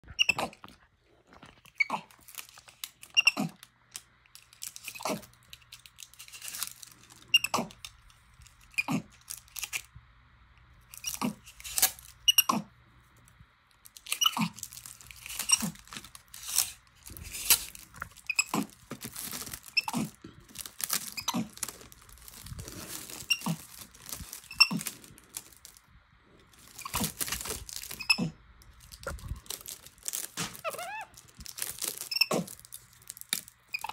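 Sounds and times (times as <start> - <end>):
tape crackling and ripping: 1.4 - 10.0, 10.8 - 33.9.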